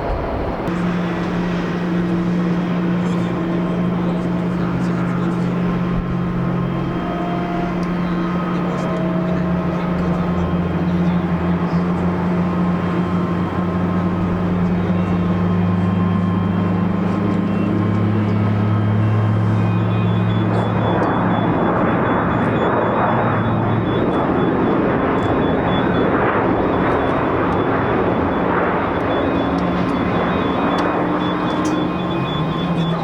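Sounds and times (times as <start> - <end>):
jet engines droning: 0.0 - 33.0.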